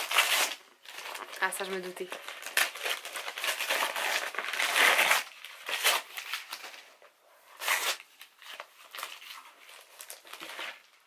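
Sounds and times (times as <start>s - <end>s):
wrapping paper tearing and crumpling: 0.0s - 11.0s.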